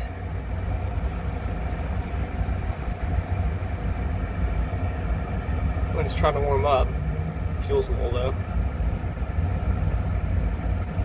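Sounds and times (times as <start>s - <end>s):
cab blower fan humming: 0.0s - 11.0s.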